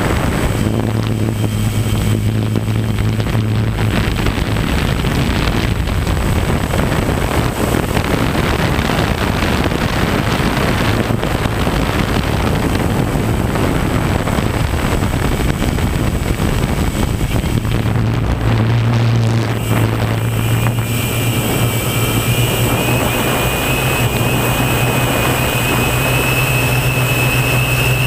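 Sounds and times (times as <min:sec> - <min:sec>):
drone motors buzzing: 0:00.0 - 0:28.0
wind rushing over microphone: 0:00.0 - 0:28.0.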